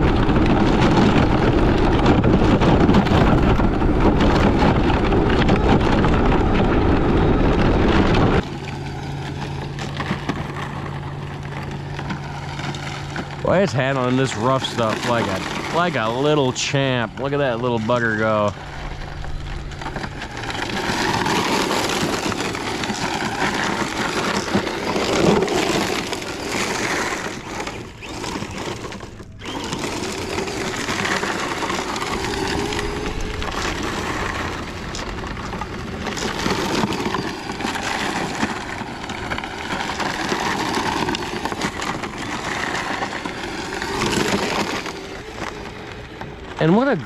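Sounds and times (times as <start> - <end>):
electric motor whine: 0.0 - 47.0
rc car rattling over rocks: 0.0 - 47.0.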